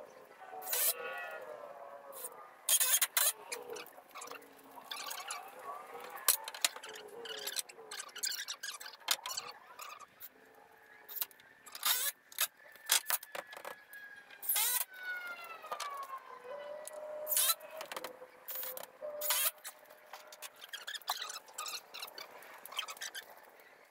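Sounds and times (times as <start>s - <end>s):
drawn-out squeal: 0.5s - 10.1s, 11.1s - 23.6s.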